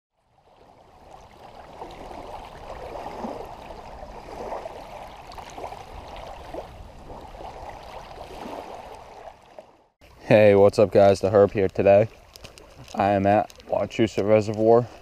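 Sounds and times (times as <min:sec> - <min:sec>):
waves lapping on pebble shore: 0:00.4 - 0:09.8, 0:11.3 - 0:15.0.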